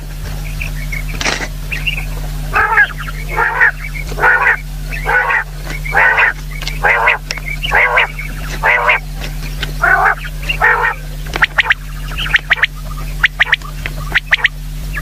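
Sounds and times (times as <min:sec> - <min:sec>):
quail calling: 0:00.0 - 0:15.0
steady low hum: 0:00.0 - 0:15.0.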